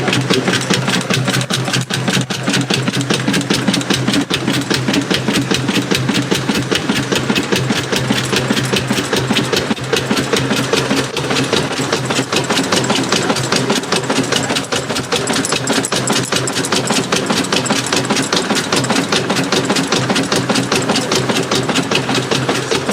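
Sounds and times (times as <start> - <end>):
steam traction engine running: 0.0 - 22.9.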